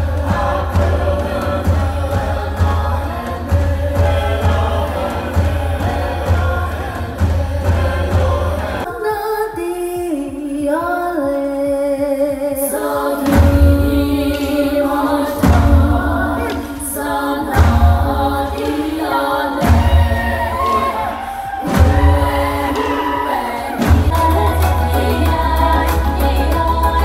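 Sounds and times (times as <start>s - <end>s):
deep drum beat: 0.0s - 8.9s, 13.2s - 27.0s
group of voices singing: 0.0s - 27.0s.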